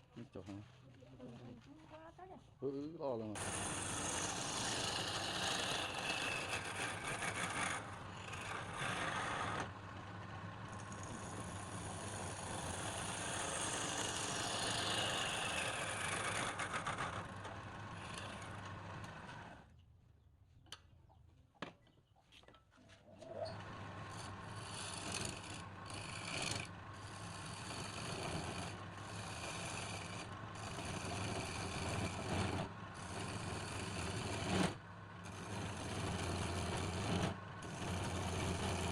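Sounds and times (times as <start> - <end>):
turning tool scraping wood: 3.4 - 19.6, 23.5 - 38.9
wood lathe motor hum: 3.4 - 19.7, 23.5 - 38.9.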